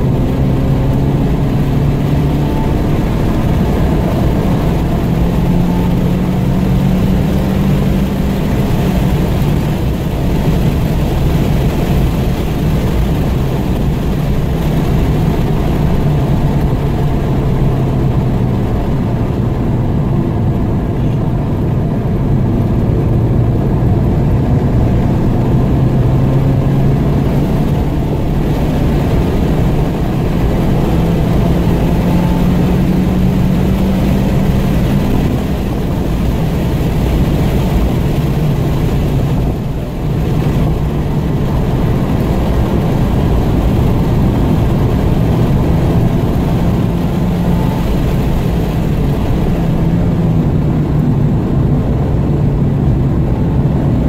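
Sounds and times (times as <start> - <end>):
car engine pulling hard: 0.0 - 54.0.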